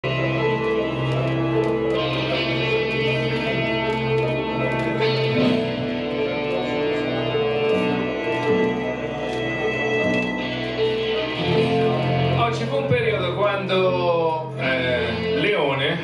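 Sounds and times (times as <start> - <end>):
guitar music with held notes: 0.0 - 16.0.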